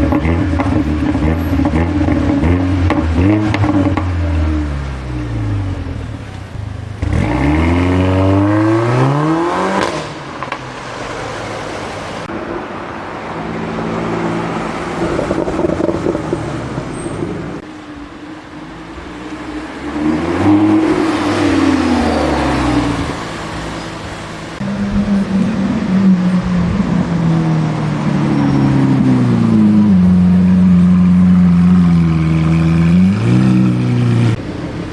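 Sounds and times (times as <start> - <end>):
car revving and passing by: 0.0 - 17.7, 18.3 - 34.9
car engines accelerating: 0.0 - 34.9.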